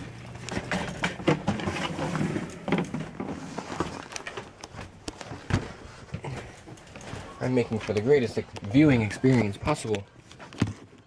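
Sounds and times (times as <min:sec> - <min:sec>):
knocks and rattles of handled objects: 0:00.0 - 0:11.0.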